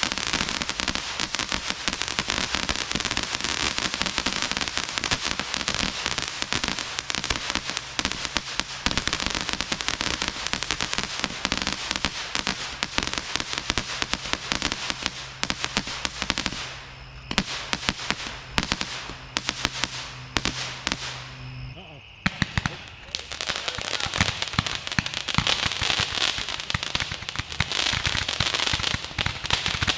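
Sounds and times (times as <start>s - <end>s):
fireworks shots and crackle: 0.0s - 29.9s.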